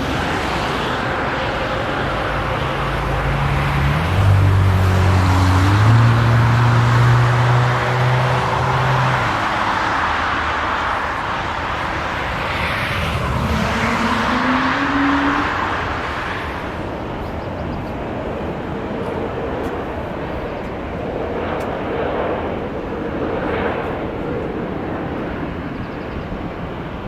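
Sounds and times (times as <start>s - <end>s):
rushing engine noise: 0.0s - 27.0s.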